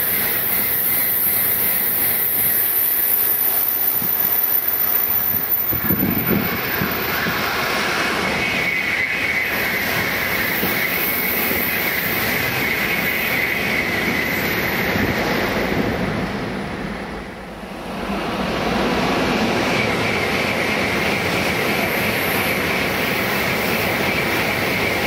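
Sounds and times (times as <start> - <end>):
high-speed train passing: 0.0 - 25.0.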